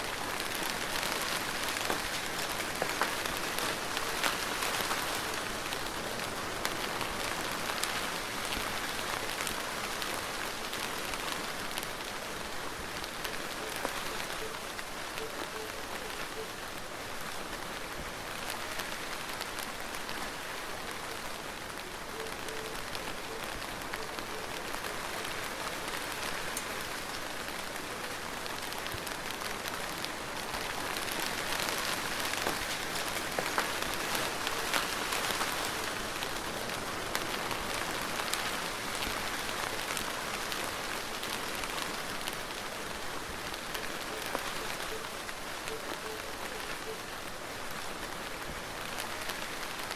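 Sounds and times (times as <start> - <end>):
soft rain falling: 0.0 - 49.9.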